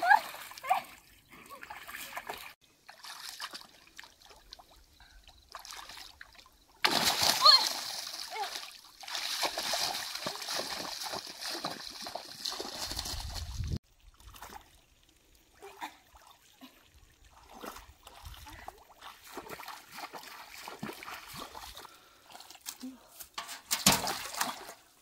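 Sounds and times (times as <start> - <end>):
person wading through water: 0.0 - 23.1
splashes and drips: 0.0 - 25.0.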